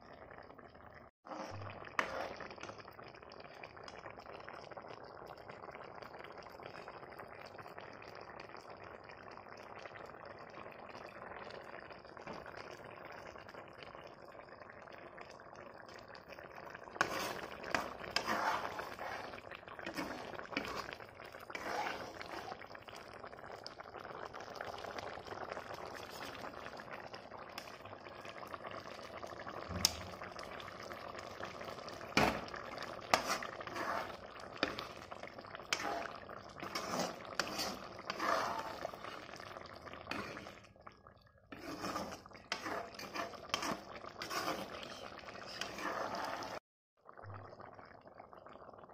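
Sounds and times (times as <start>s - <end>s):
curry bubbling in a pan: 0.0s - 48.9s.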